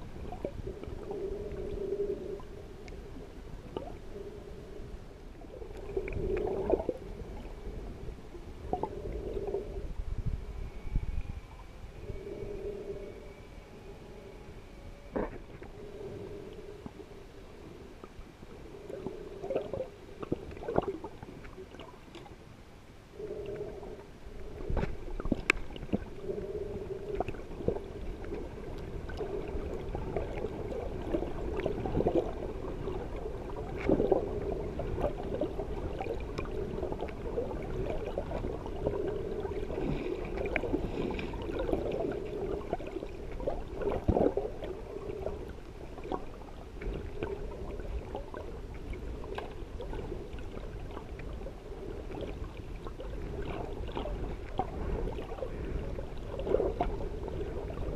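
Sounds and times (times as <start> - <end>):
steady low hum: 0.0 - 57.9
underwater gurgling and sloshing: 0.0 - 57.9.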